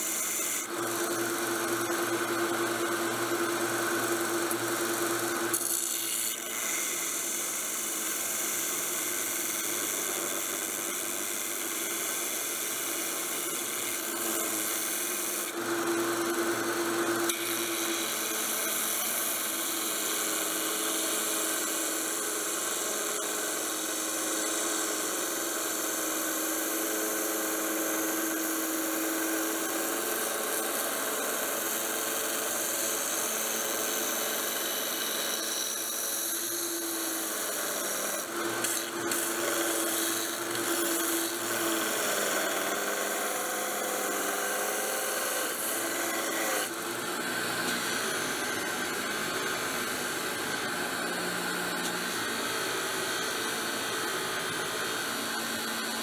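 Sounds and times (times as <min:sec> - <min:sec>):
belt sander running: 0:00.0 - 0:56.0.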